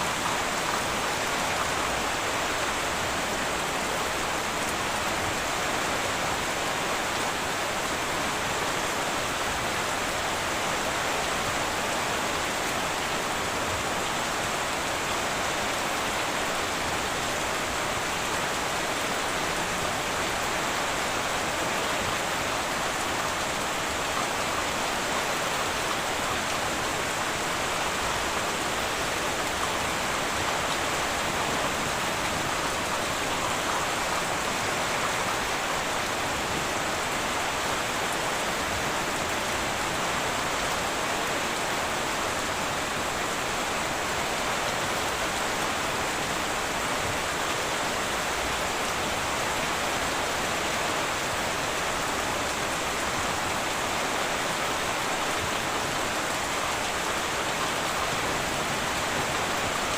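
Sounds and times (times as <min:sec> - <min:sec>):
heavy rain on a metal roof: 0:00.0 - 0:59.9.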